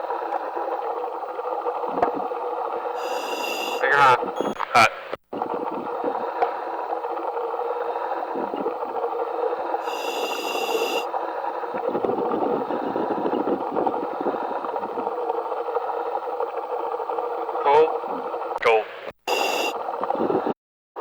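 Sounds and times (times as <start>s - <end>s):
underwater welding arc noise: 0.0s - 3.8s, 5.0s - 17.5s, 19.2s - 20.1s.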